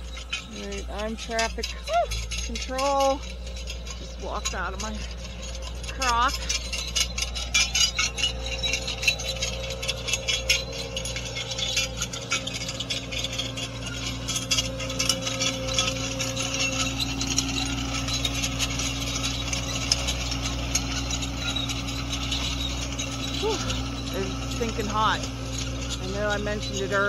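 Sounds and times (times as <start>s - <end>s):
diesel engine humming: 0.0s - 27.0s
metallic rattling and clinking: 0.0s - 27.0s.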